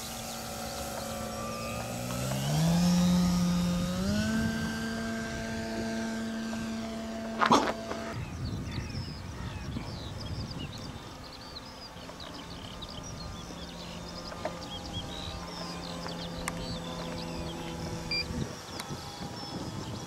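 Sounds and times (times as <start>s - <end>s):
birds chirping: 0.0s - 20.0s
model plane propeller humming: 0.0s - 20.0s.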